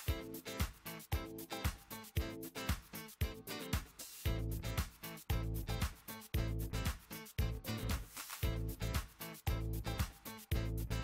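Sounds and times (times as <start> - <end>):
background music with heavy bass beat: 0.0 - 11.0.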